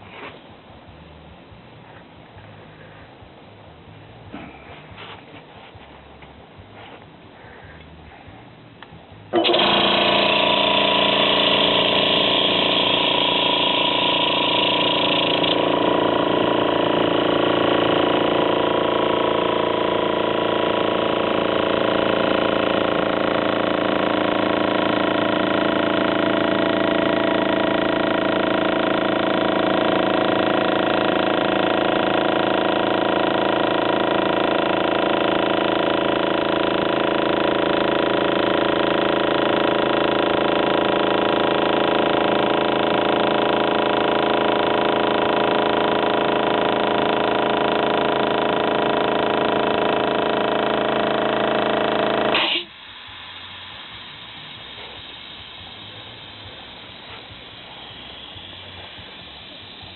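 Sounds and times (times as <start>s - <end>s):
air compressor running: 0.0s - 59.9s.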